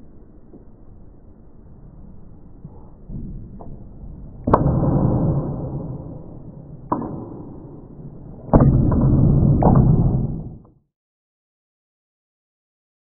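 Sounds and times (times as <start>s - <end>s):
low rumble: 0.0s - 10.7s.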